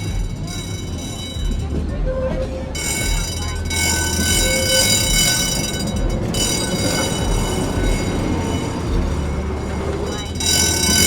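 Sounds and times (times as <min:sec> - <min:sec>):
high-pitched whine: 0:00.0 - 0:11.0
low motor hum: 0:00.0 - 0:11.0
tram running on rails: 0:00.0 - 0:11.0.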